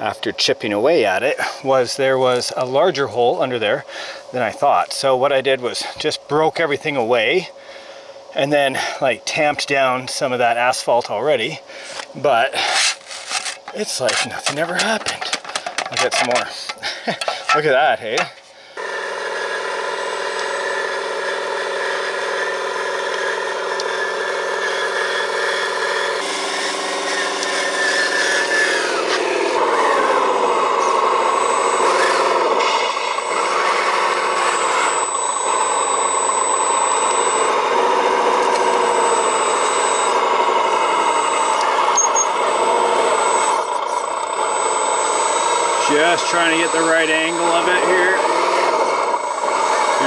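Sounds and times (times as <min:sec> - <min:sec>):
hydraulic pump motor whine: 0:00.0 - 0:50.0.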